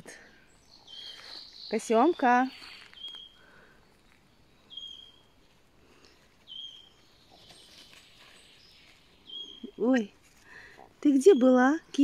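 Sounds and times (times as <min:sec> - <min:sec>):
faint woodland background: 0:00.0 - 0:12.0.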